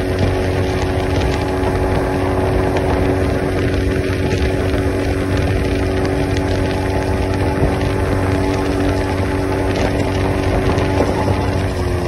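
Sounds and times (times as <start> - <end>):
outboard motor drone: 0.0 - 12.0
rush of spray and wake: 0.0 - 12.0.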